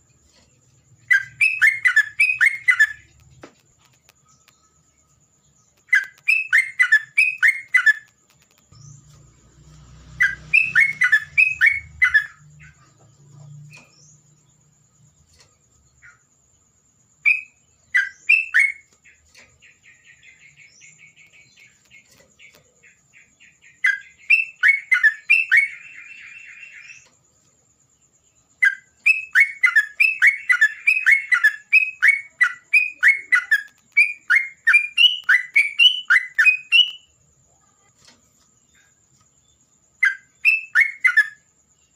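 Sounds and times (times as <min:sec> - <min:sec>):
songbird singing: 0:00.0 - 0:41.9.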